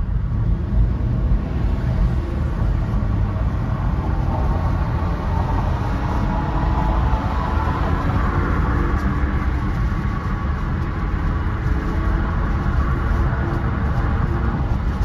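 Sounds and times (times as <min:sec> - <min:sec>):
car interior road rumble: 0:00.0 - 0:15.0.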